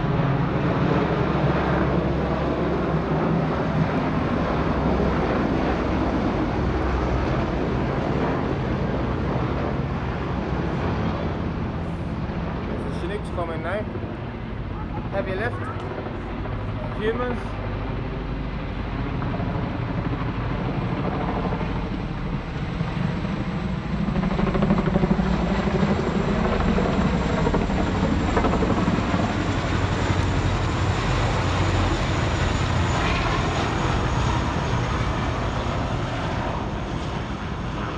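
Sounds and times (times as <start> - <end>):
helicopter rotor chop: 0.0 - 37.9.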